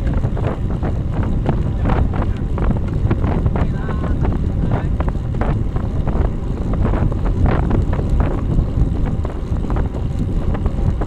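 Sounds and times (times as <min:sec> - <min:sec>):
tyre and road noise: 0:00.0 - 0:11.0
wind buffeting microphone: 0:00.0 - 0:11.0.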